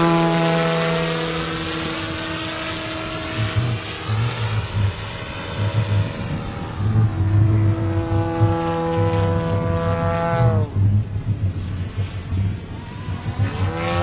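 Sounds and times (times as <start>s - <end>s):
model plane engine: 0.0s - 14.0s
wind buffeting microphone: 0.0s - 14.0s.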